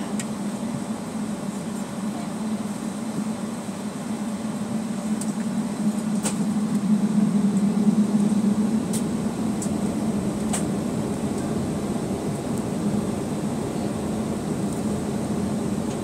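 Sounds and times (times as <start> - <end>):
airplane cabin hum: 0.0 - 16.0.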